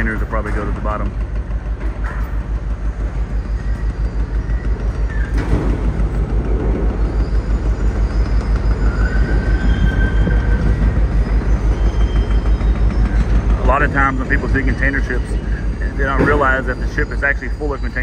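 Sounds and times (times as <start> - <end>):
loud rumble: 0.0 - 18.0
machinery throbbing: 0.0 - 18.0.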